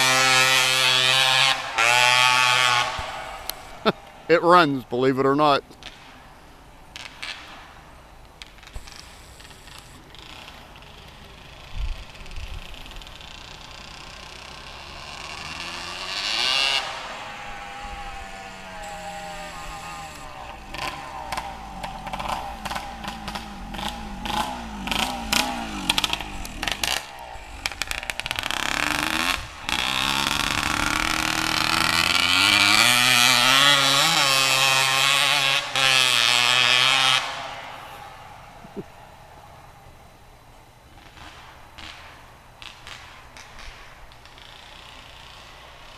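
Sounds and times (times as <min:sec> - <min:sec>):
two-stroke engine revving: 0:00.0 - 0:06.1, 0:08.5 - 0:38.8, 0:41.0 - 0:45.9.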